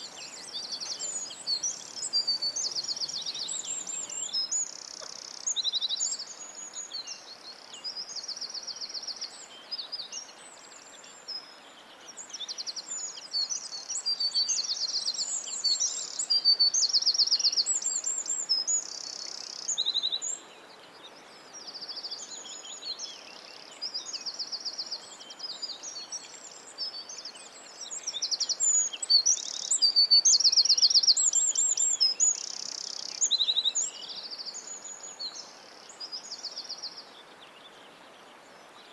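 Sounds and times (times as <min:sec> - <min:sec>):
faint background hiss: 0:00.0 - 0:38.9
songbirds singing and chirping: 0:00.0 - 0:38.9.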